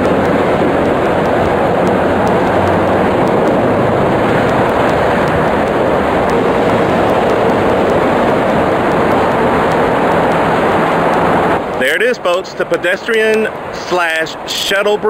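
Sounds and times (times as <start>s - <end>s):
highway traffic rushing: 0.0s - 15.0s.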